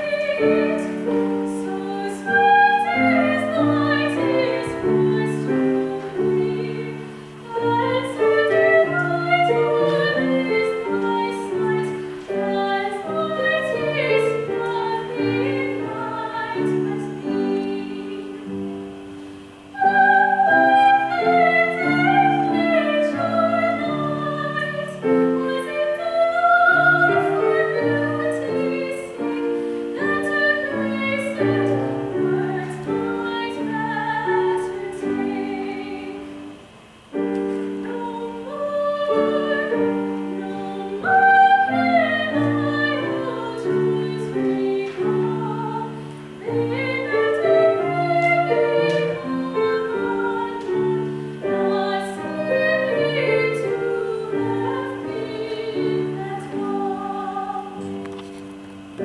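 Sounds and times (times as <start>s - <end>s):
woman singing classically: 0.0s - 58.4s
grand piano: 0.0s - 59.0s.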